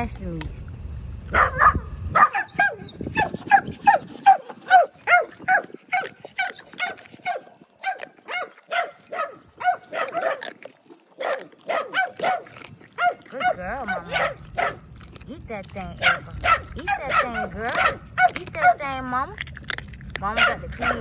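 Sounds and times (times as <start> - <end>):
dog yelping: 1.3 - 21.0.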